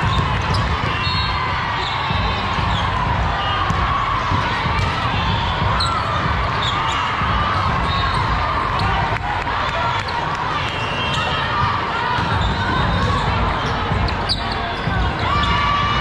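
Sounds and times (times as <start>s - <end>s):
background chatter and calls: 0.0s - 16.0s.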